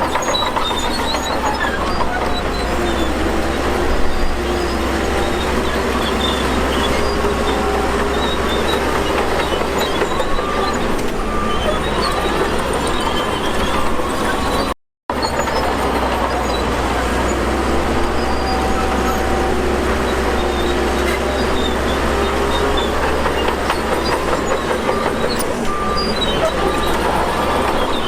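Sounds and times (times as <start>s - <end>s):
bulldozer diesel engine under load: 0.0s - 28.0s
steel tracks clanking and squealing: 0.0s - 28.0s.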